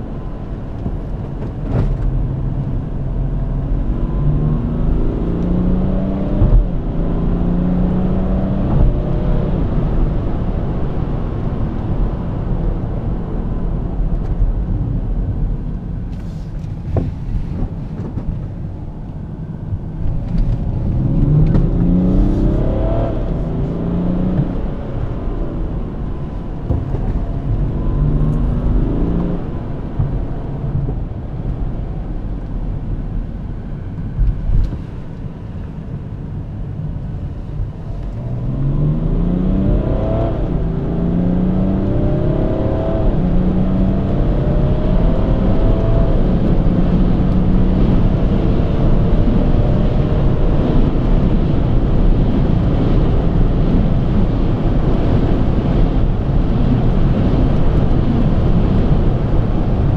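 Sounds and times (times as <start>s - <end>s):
car engine accelerating: 0.0s - 59.9s
tyre and road rumble: 11.4s - 59.9s.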